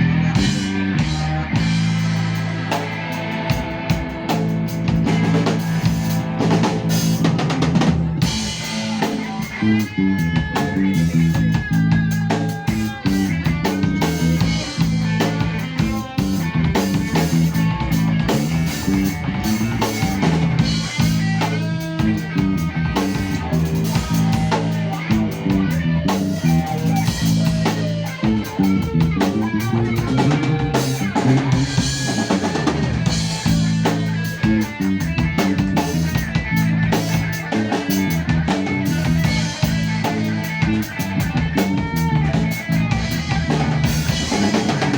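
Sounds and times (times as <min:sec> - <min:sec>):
band playing drums bass and guitar: 0:00.0 - 0:44.9.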